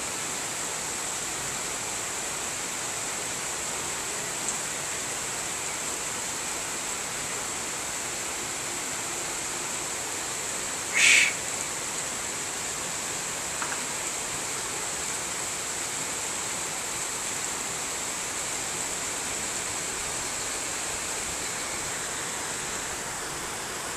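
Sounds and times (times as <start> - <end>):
heavy rain on tin roofs: 0.0 - 23.9.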